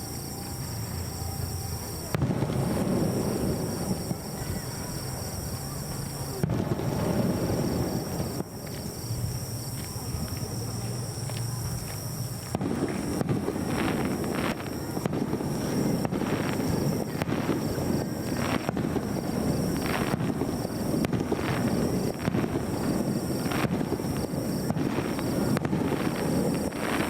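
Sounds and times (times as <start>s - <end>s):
fireworks booming: 0.0s - 27.0s
insects chirping: 0.0s - 27.0s.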